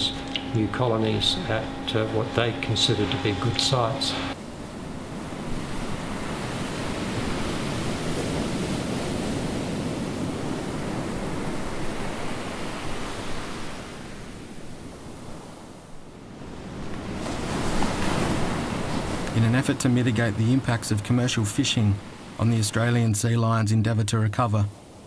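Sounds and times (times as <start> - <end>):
ocean surf against rocky shore: 0.0 - 25.0.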